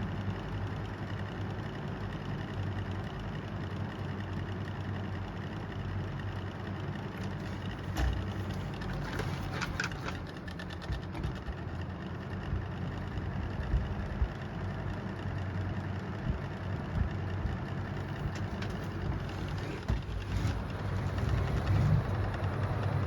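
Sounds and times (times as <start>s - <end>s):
box fan running: 0.0s - 23.0s.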